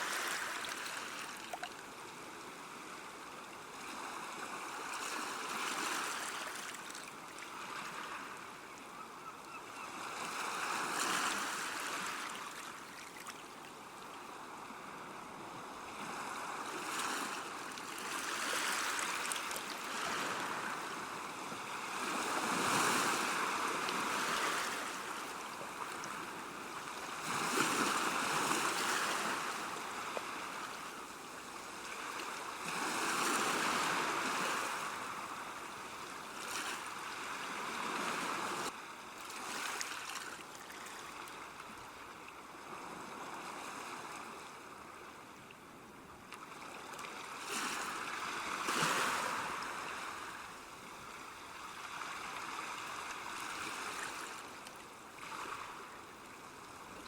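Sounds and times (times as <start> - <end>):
river water rushing and lapping: 0.0 - 45.5, 46.1 - 57.0.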